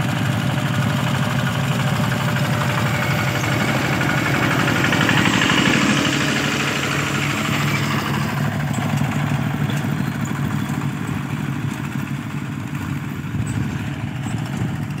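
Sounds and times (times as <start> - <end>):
walking tractor diesel engine: 0.0 - 15.0.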